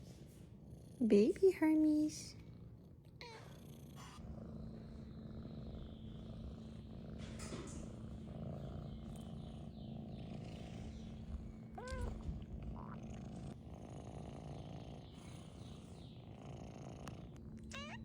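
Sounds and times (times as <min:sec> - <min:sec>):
kitten purring: 0:00.7 - 0:18.0.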